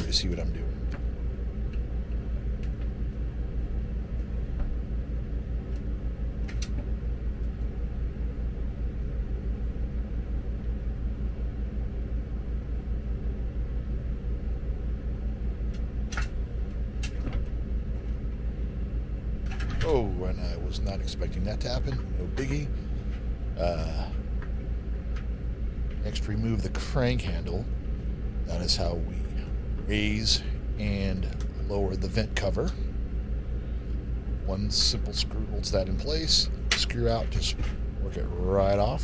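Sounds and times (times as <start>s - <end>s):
low mechanical drone: 0.0s - 39.0s.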